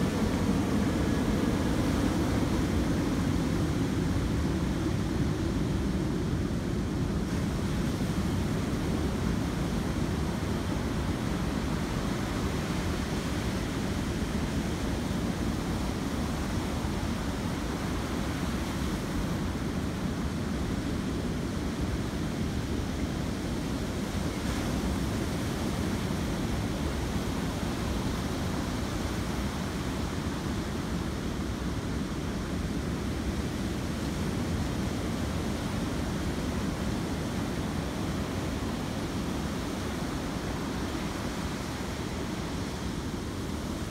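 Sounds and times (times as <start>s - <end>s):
ocean waves washing on sand: 0.0s - 43.9s.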